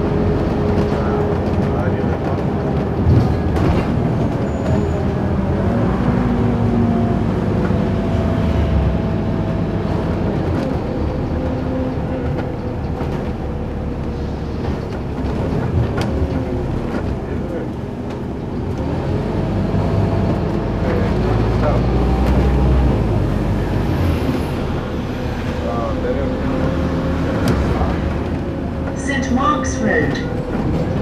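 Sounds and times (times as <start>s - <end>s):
bus body rattles: 0.0s - 29.1s, 30.0s - 31.0s
bus diesel engine and road noise: 0.0s - 31.0s.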